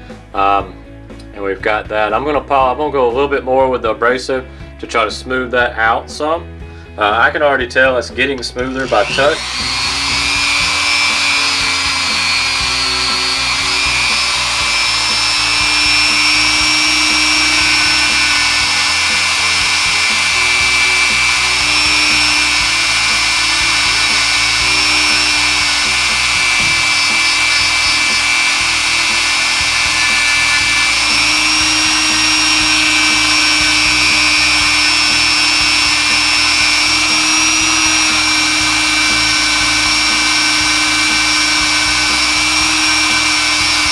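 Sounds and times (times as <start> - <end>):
rotary tool motor whine: 8.7 - 43.9.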